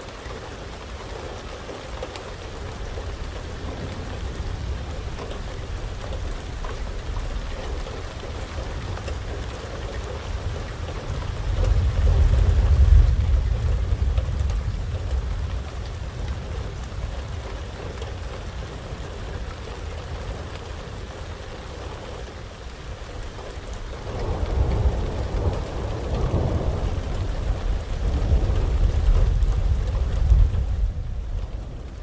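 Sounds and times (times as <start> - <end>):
heavy rain falling: 0.0 - 32.0
rolling thunder: 2.4 - 21.4, 23.1 - 32.0.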